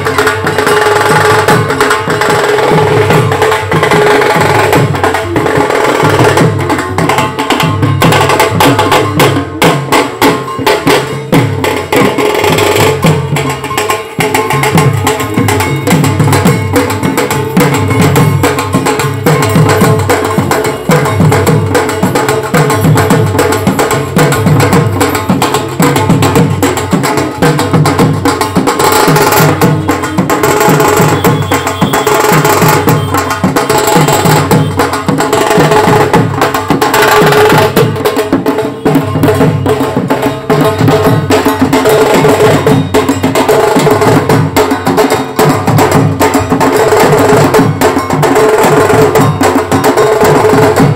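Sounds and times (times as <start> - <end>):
drums beating fast rhythm: 0.0 - 50.9.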